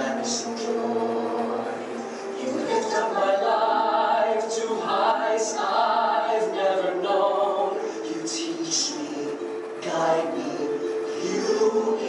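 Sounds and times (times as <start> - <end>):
choir singing slow song: 0.0 - 12.0.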